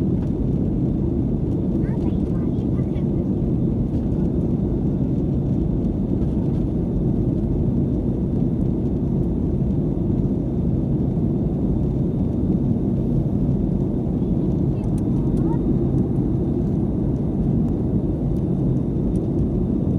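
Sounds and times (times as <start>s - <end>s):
airliner cabin rumble: 0.0s - 19.9s.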